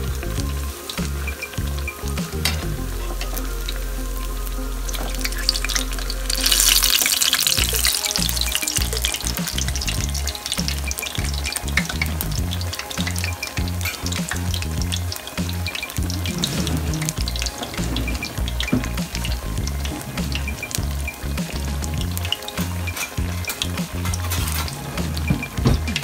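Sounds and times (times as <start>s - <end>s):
fritters deep-frying in oil: 0.0s - 26.0s.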